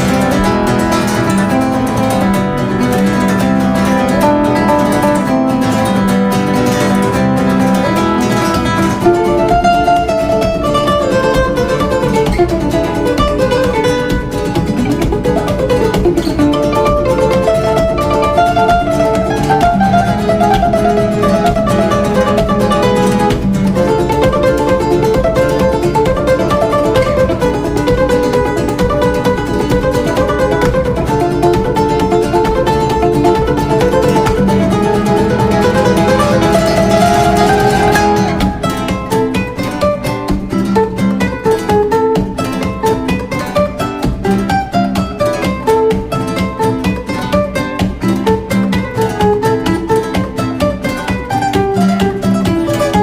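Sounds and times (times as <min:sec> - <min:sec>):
flamenco acoustic guitar: 0:00.0 - 0:53.0.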